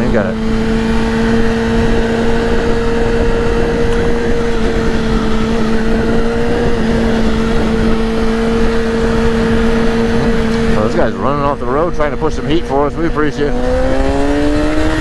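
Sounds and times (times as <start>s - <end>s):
motorcycle engine cruising: 0.0s - 15.0s
wind rush: 0.0s - 15.0s.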